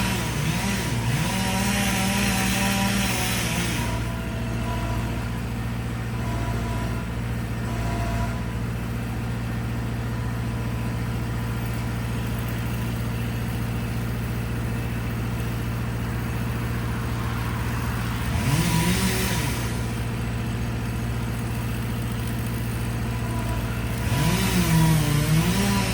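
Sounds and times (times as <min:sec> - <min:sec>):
engine running and revving: 0:00.0 - 0:25.9.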